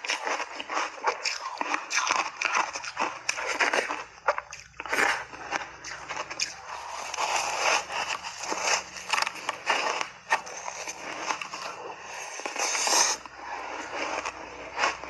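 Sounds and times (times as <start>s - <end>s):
crunching and chewing ice: 0.0s - 15.0s.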